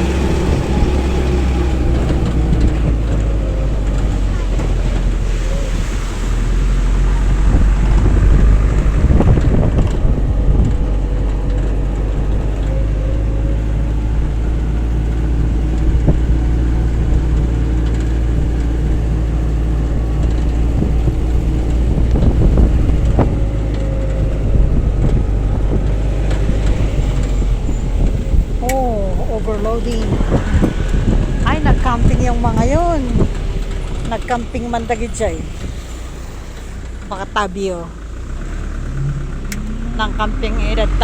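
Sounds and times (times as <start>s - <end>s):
vehicle engine and road noise: 0.0s - 41.0s
wind buffeting microphone: 0.0s - 41.0s.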